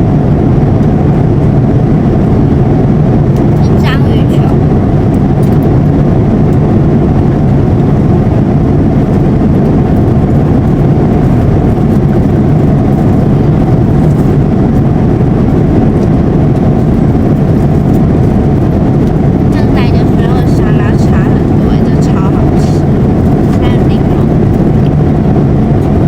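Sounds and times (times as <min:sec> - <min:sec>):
jet airliner cabin roar: 0:00.0 - 0:26.0.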